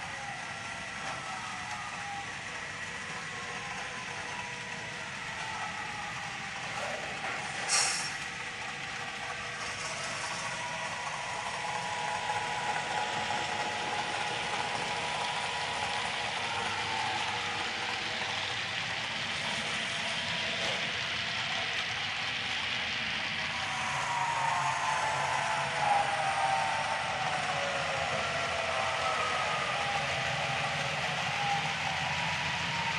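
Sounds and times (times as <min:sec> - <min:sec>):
model train wheels clicking: 0:00.0 - 0:32.9
diesel engine sound effect: 0:00.4 - 0:32.9.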